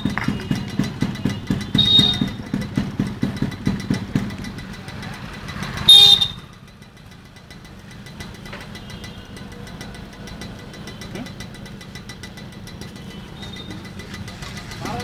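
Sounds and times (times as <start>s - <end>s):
two-stroke engine idling: 0.0s - 15.0s.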